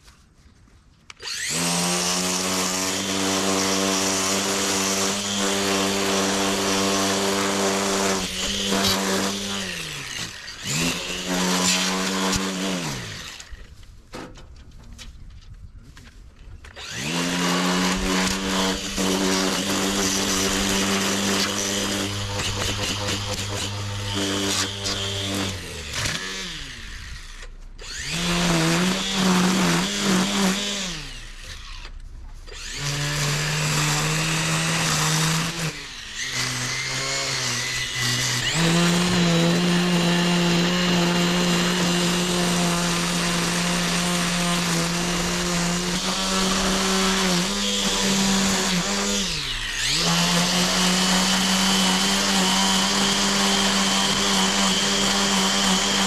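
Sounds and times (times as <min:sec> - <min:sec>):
string trimmer motor whining: 0:01.1 - 0:13.8, 0:16.6 - 0:56.0.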